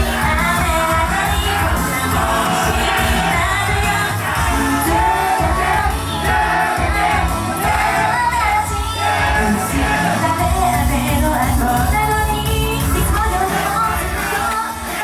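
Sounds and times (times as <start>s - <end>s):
group singing pop song: 0.0s - 15.0s
pop backing track with beat: 0.0s - 15.0s.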